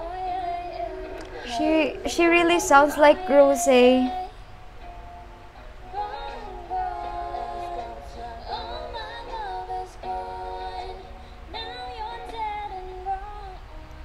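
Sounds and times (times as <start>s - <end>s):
woman singing into a microphone: 0.0s - 4.5s, 5.9s - 14.0s.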